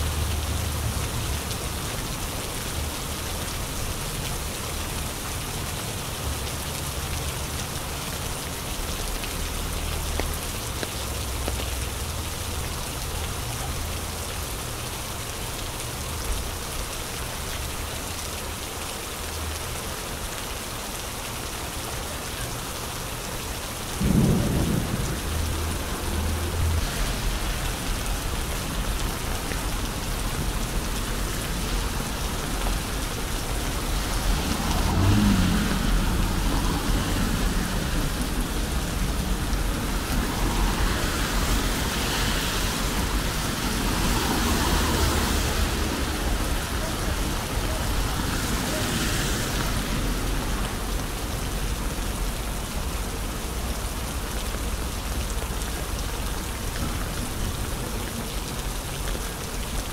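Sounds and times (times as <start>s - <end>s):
rain on wet pavement: 0.0s - 59.9s.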